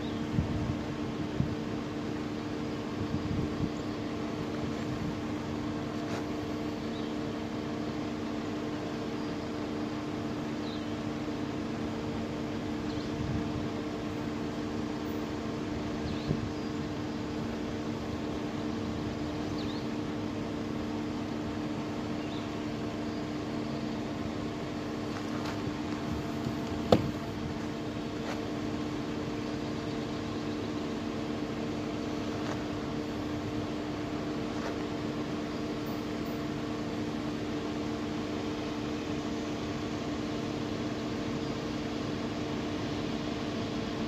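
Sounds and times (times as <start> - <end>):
mechanical hum: 0.0 - 44.0.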